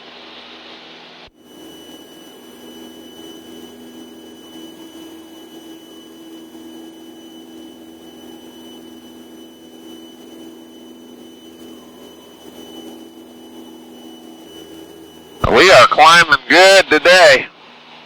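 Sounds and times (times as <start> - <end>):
aircraft engine and propeller drone: 1.2 - 18.0
thin high whine: 1.4 - 17.6.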